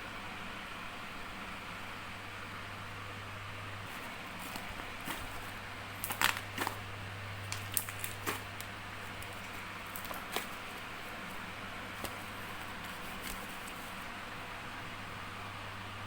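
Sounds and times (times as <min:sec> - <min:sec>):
low hum and hiss: 0:00.0 - 0:16.0.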